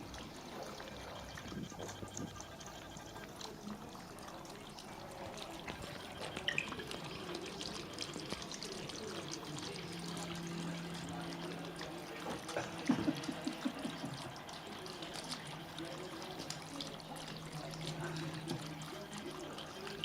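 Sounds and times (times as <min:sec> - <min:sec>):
water running and trickling: 0:00.0 - 0:20.0.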